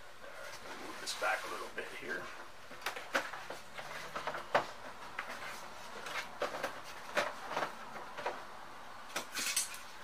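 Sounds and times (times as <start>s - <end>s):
cardboard rustling and scraping: 0.3s - 8.5s.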